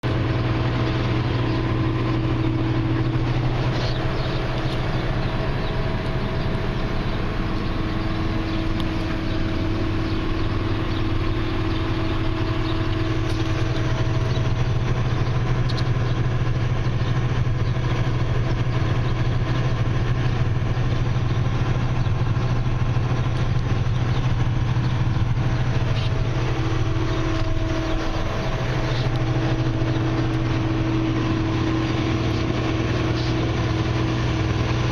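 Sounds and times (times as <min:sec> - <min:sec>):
diesel engine idling: 0:00.0 - 0:34.9
steady whine: 0:00.0 - 0:34.9.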